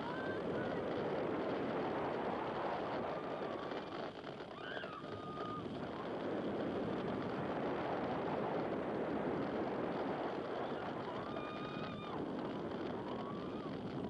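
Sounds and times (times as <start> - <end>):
wind and track noise: 0.0 - 14.0.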